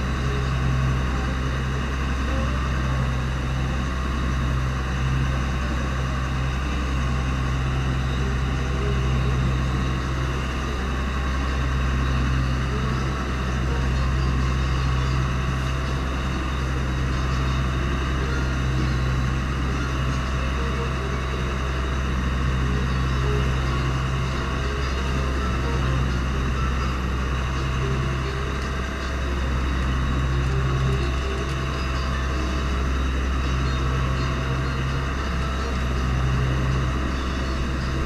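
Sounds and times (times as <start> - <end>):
boat engine running: 0.0 - 38.0.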